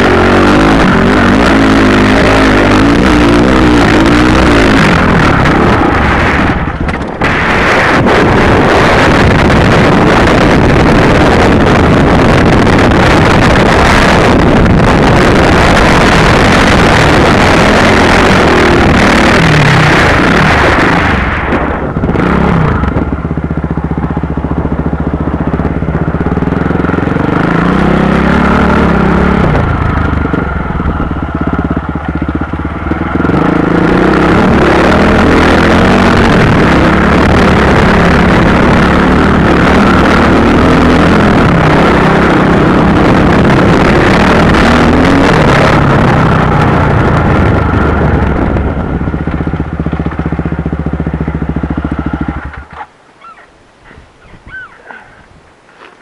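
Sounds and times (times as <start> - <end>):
rushing wind noise: 0.0 - 52.8
motorcycle engine revving: 0.0 - 53.5.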